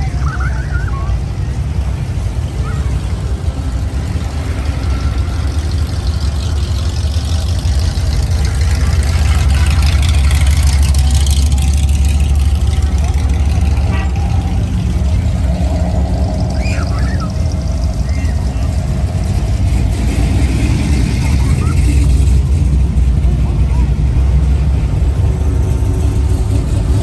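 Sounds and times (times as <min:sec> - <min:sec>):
people talking: 0:00.0 - 0:06.0, 0:08.2 - 0:25.4
car engines rumbling: 0:00.0 - 0:27.0.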